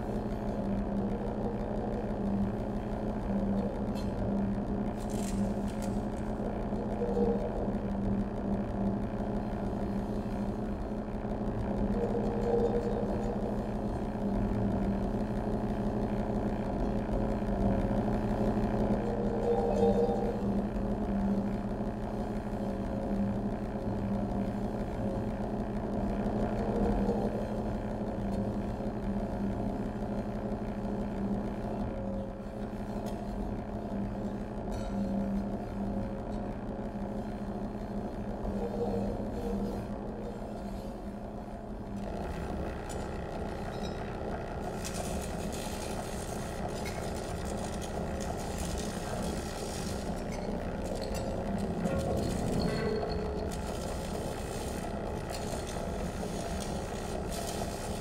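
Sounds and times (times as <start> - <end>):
electronic low drone: 0.0 - 58.0.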